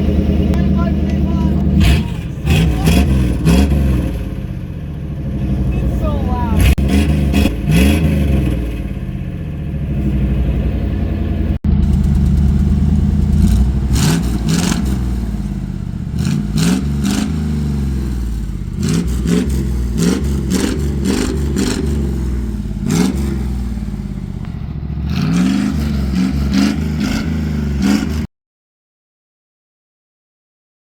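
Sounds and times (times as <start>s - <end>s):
loud engine revving: 0.0s - 28.3s.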